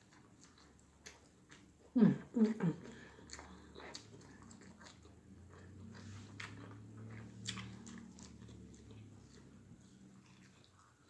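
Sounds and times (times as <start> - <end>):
low steady hum: 0.0 - 11.0
mouth chewing food: 0.0 - 11.0.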